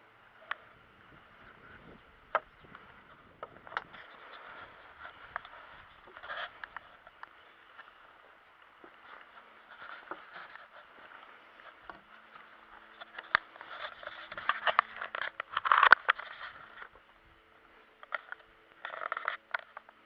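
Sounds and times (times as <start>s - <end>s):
camera handling scraping and rustling: 1.8s - 17.1s, 17.7s - 20.0s.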